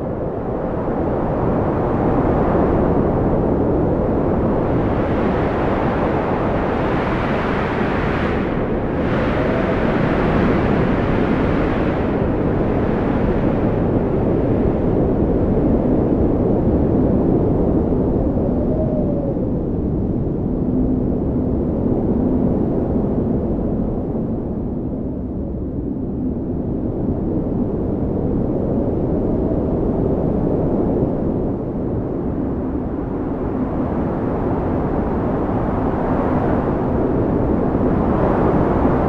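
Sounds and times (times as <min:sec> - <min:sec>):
strong wind blowing: 0:00.0 - 0:39.0.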